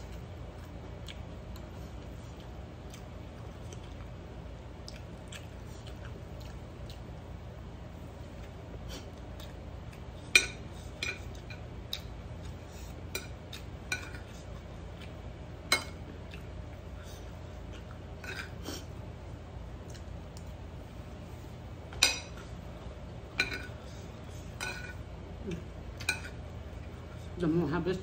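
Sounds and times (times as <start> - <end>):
faint steady low hum: 0.0 - 28.0.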